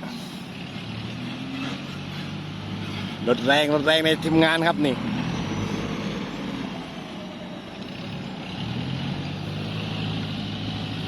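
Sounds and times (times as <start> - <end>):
dump truck diesel engine: 0.0 - 11.0.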